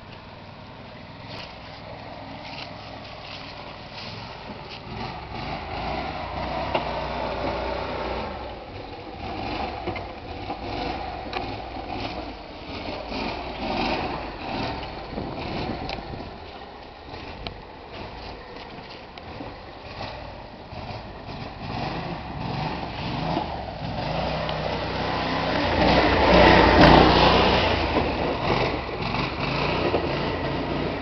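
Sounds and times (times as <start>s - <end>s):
atv engine under load: 0.0s - 31.0s.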